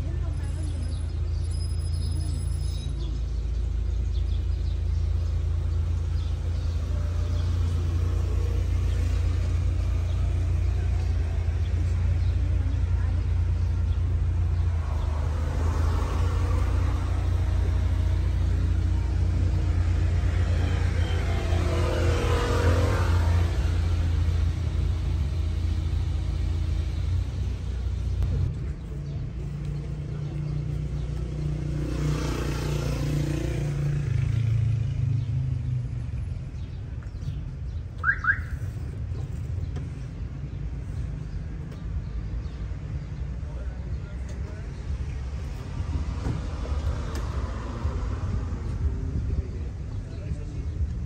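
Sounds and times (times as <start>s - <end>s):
road traffic rumble: 0.0s - 51.0s.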